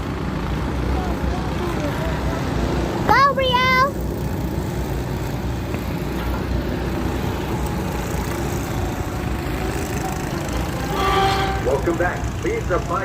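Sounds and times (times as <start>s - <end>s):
go-kart engines: 0.0s - 13.0s.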